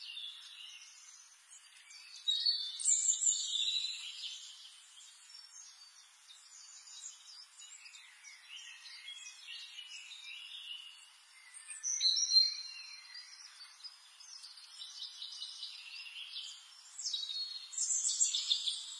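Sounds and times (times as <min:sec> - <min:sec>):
birds chirping and singing: 0:00.0 - 0:18.9.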